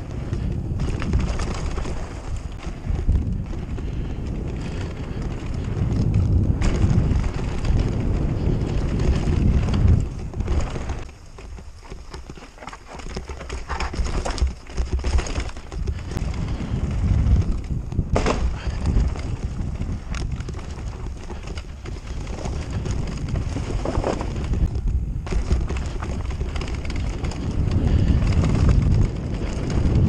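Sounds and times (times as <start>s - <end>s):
mountain bike rattling downhill: 0.0s - 30.0s.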